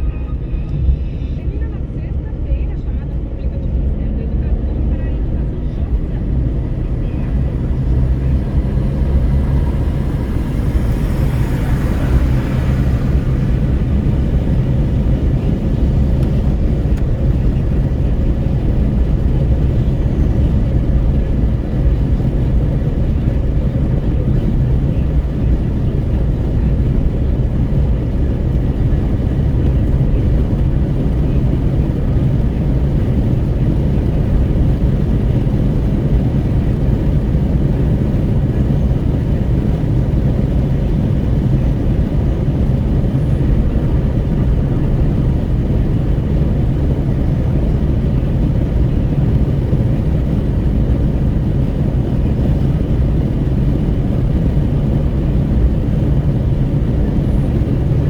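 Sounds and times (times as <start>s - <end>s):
road rumble inside a car: 0.0s - 58.0s
wind rushing at the window: 0.0s - 58.0s.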